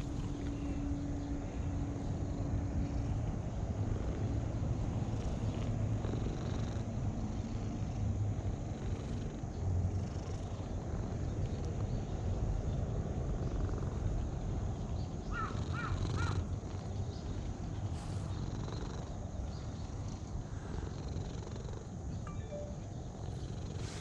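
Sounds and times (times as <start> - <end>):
cat purring: 2.0 - 14.8, 15.5 - 22.1.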